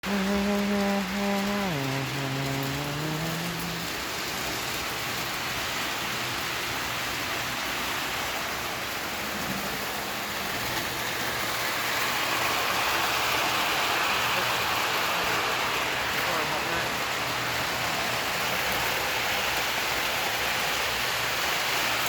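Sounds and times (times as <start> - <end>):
model train rumbling on track: 0.0 - 22.0.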